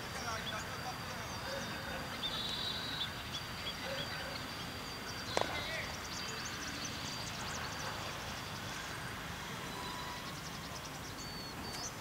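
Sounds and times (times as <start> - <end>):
open-air background hum: 0.0 - 12.0
small birds chirping faintly: 0.0 - 12.0.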